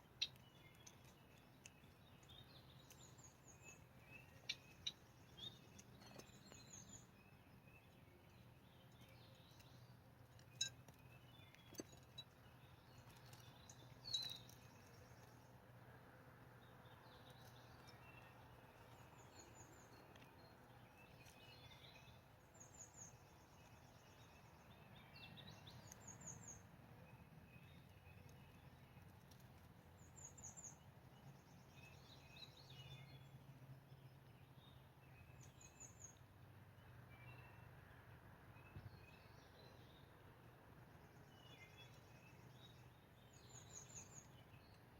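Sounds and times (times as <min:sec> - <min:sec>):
quiet outdoor background noise: 0:00.0 - 0:44.9.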